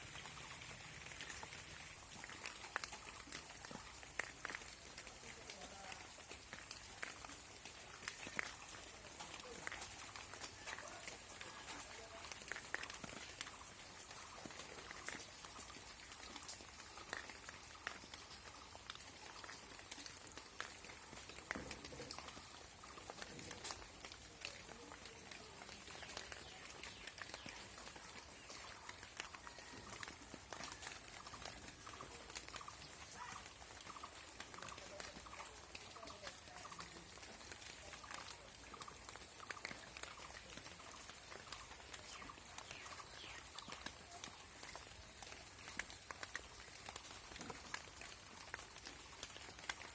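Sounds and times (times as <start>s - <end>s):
drip and thud: 0.0s - 49.9s
light rain falling: 0.0s - 49.9s
raindrop ticks and drips: 0.0s - 49.9s.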